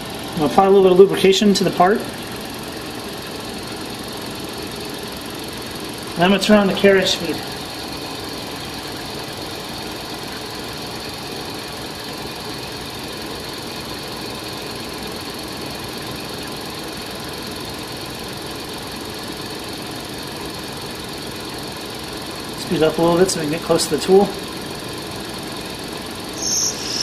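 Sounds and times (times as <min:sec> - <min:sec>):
lathe running: 0:00.0 - 0:27.0.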